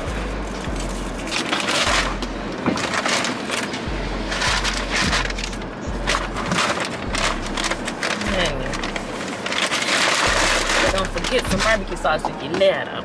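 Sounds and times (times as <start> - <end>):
paper bag crinkling: 0.0 - 12.0
music with deep bass: 0.0 - 12.8.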